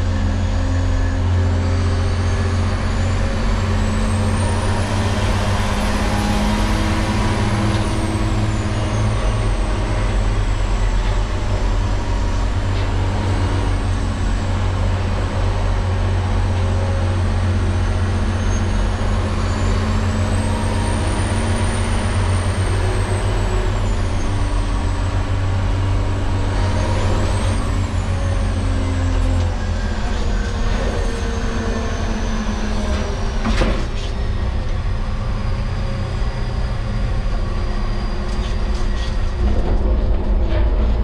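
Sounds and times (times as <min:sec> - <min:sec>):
diesel engine drone: 0:00.0 - 0:41.0.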